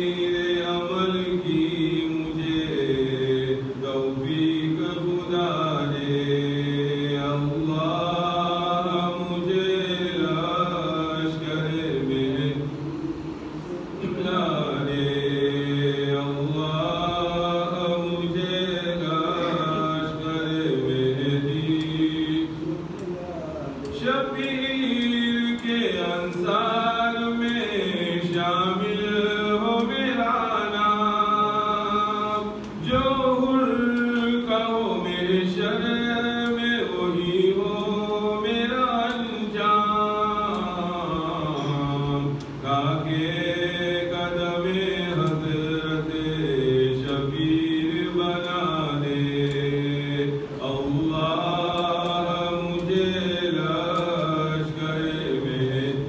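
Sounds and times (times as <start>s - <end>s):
man chanting unaccompanied: 0.0s - 56.0s.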